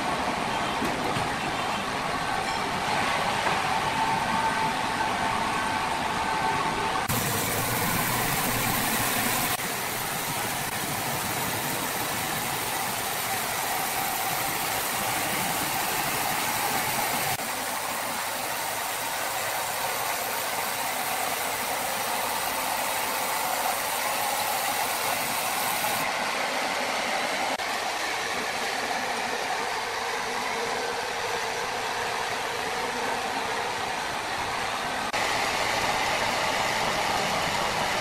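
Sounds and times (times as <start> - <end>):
sawmill machinery running: 0.0 - 38.0.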